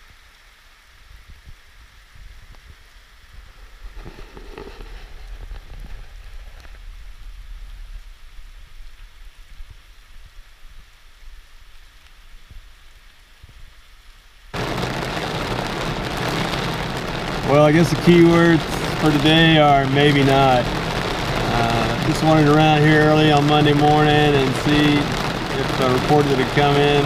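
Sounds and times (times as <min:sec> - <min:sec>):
heavy rain on a car roof: 0:00.0 - 0:27.0
steady rain falling: 0:00.0 - 0:27.0.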